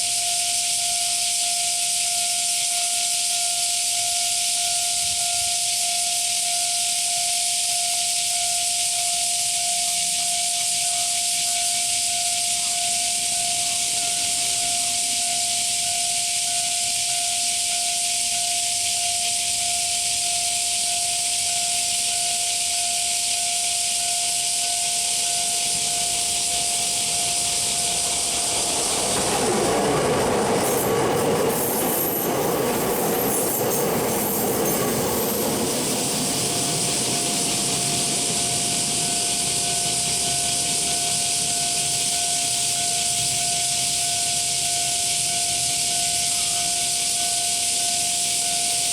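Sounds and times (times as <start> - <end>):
steady hiss: 0.0 - 48.9
level crossing warning bell: 0.2 - 48.9
train passing: 6.3 - 48.9.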